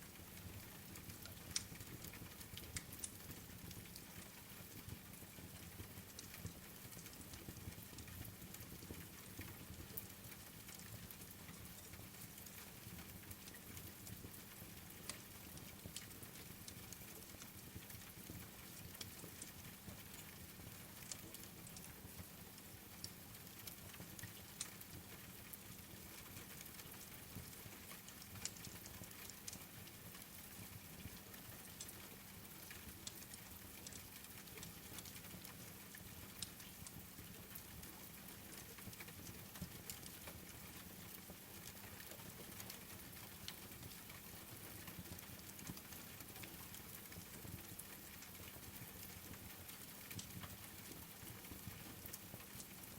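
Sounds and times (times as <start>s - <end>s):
faint rain: 0.0s - 52.9s.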